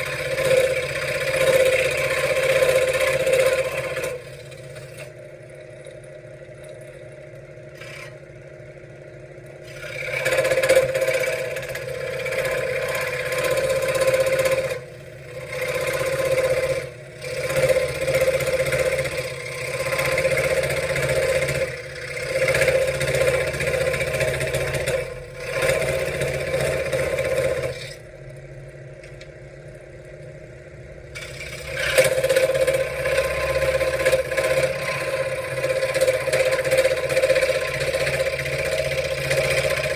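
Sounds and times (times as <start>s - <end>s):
scroll saw cutting wood: 0.0s - 5.2s, 7.7s - 8.3s, 9.6s - 28.1s, 31.1s - 39.9s.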